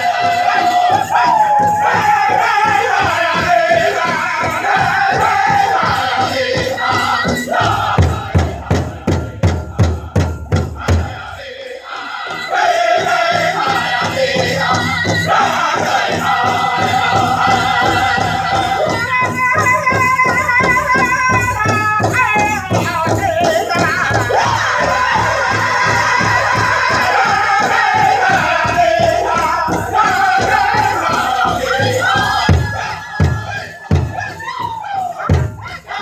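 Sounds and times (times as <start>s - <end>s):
big drum beats: 0.0s - 36.0s
drum group singing: 0.0s - 36.0s.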